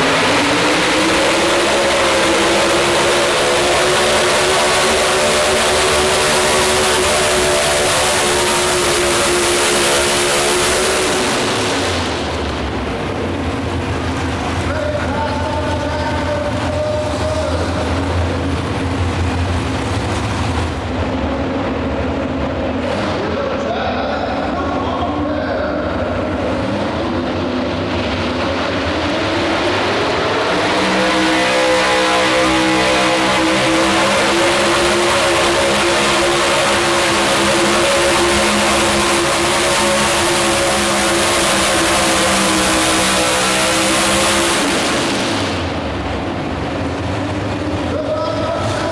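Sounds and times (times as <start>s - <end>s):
truck engine at full throttle: 0.0s - 48.9s.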